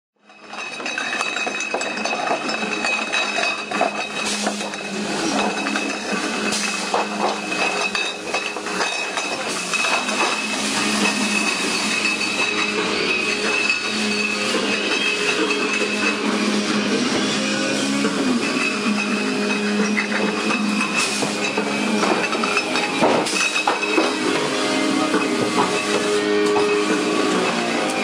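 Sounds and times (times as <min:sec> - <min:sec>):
glass bottles clinking: 0:00.2 - 0:28.0
steady machine hum: 0:01.5 - 0:28.0.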